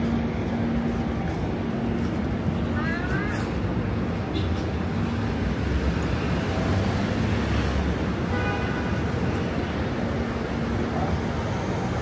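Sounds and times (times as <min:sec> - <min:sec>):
traffic roar: 0:00.0 - 0:12.0.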